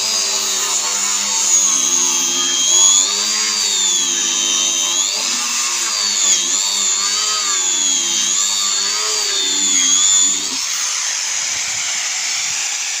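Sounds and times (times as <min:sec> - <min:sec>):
angle grinder whining: 0:00.0 - 0:13.0.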